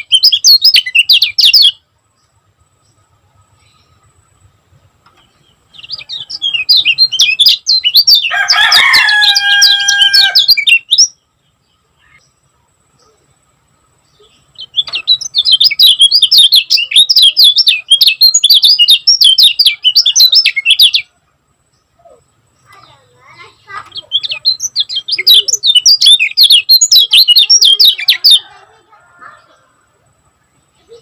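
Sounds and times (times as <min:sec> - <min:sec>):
held steady-pitched bird call: 0:00.0 - 0:31.0
songbird rapid high chirps: 0:00.0 - 0:31.0.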